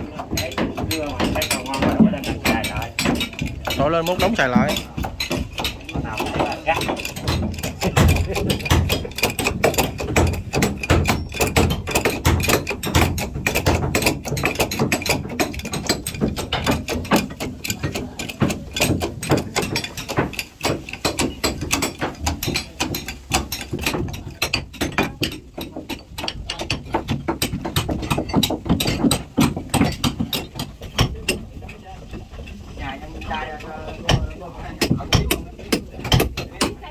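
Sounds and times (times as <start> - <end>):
hand tools knocking on wood: 0.0 - 36.9.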